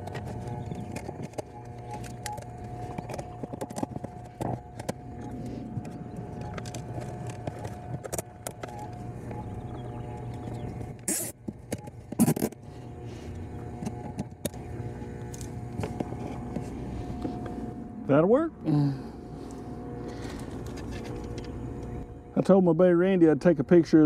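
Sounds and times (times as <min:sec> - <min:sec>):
air pump humming: 0:00.0 - 0:24.0.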